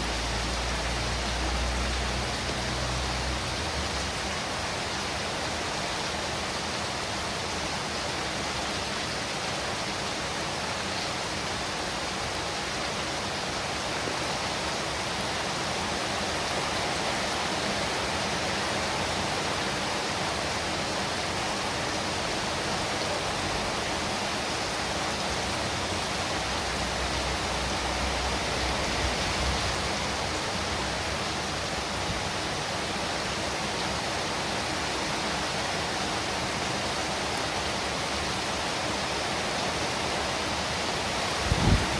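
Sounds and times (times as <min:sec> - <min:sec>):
steady rain: 0:00.0 - 0:41.9.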